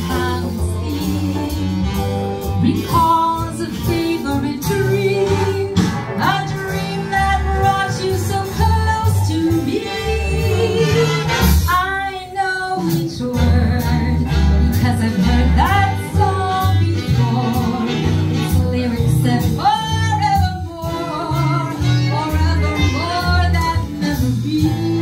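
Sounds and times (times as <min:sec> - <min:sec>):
guitar: 0:00.0 - 0:25.0
person singing: 0:02.6 - 0:25.0.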